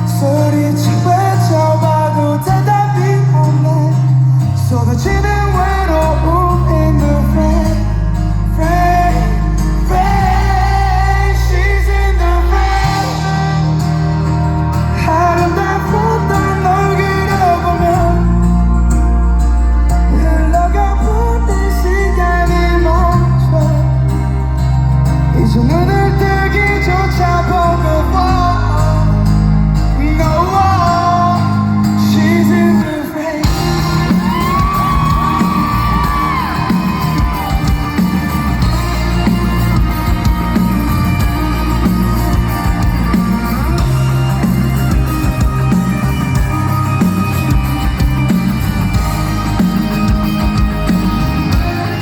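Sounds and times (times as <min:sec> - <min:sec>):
live rock band playing: 0:00.0 - 0:52.0
person singing: 0:00.0 - 0:52.0.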